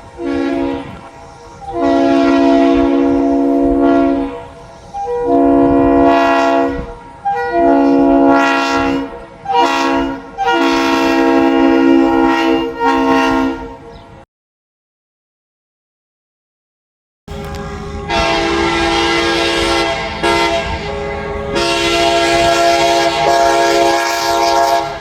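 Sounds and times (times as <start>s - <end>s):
locomotive air horn blasts: 0.0s - 14.2s, 17.3s - 25.0s.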